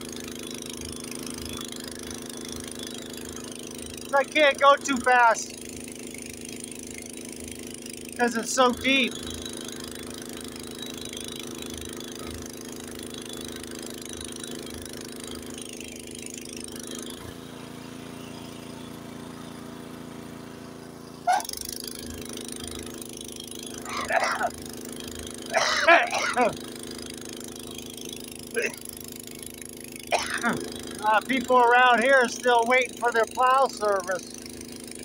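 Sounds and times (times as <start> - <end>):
snowblower engine running: 0.0 - 35.0.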